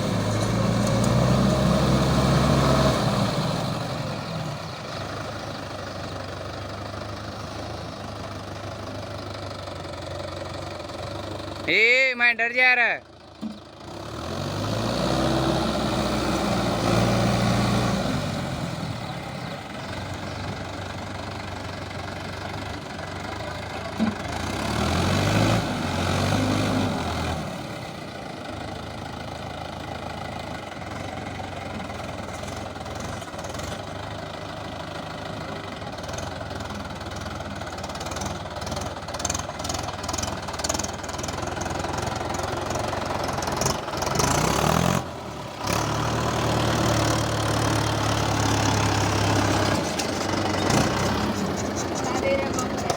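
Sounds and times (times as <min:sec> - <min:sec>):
tractor diesel engine revving: 0:00.0 - 0:52.9.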